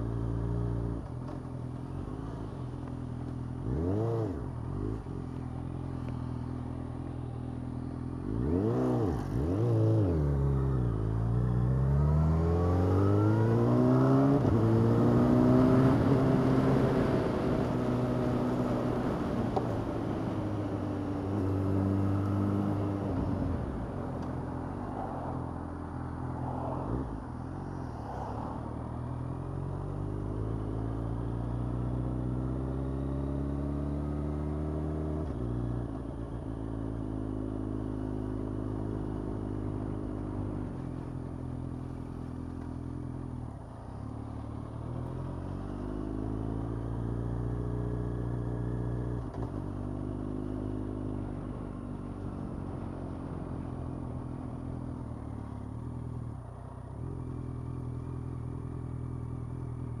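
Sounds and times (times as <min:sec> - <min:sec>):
motorcycle engine revving: 0:03.4 - 0:28.1, 0:28.9 - 1:00.0.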